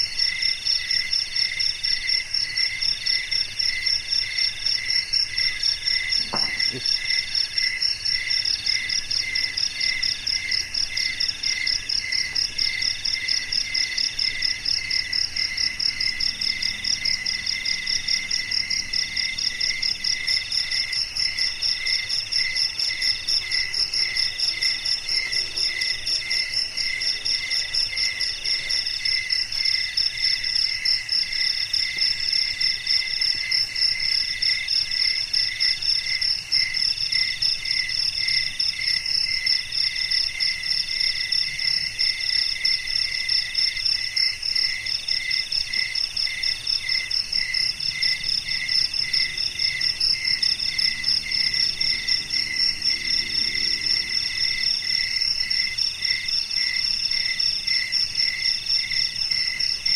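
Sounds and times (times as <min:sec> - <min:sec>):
high continuous insect trill: 0:00.0 - 0:59.9
long insect call: 0:00.0 - 0:59.9
low pulsing cricket chirp: 0:00.0 - 0:59.9.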